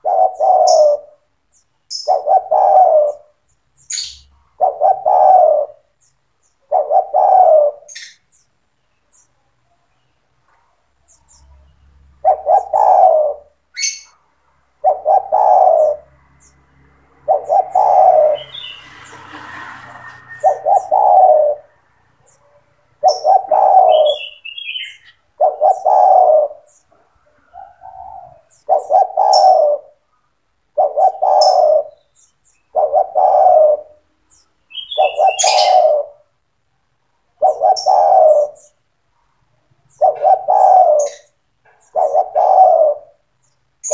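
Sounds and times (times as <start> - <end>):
dove cooing: 0.0 - 1.3, 1.9 - 6.0, 6.6 - 8.3, 11.3 - 14.2, 14.8 - 16.5, 17.1 - 34.1, 34.7 - 36.4, 37.3 - 38.9, 39.9 - 43.9
small birds chirping: 0.0 - 43.9.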